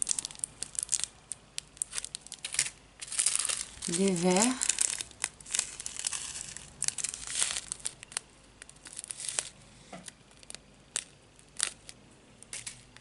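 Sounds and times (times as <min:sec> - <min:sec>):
plastic packets crinkling: 0:00.0 - 0:13.0.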